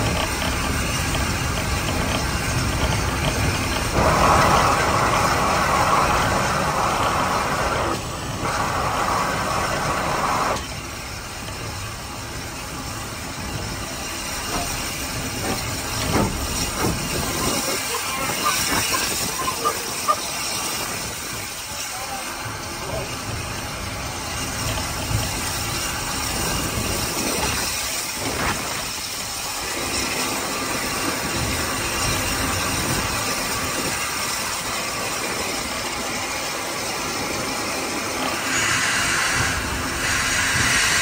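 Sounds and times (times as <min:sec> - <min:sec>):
steam hissing loudly: 0:00.0 - 0:41.0
steam locomotive running: 0:00.0 - 0:41.0.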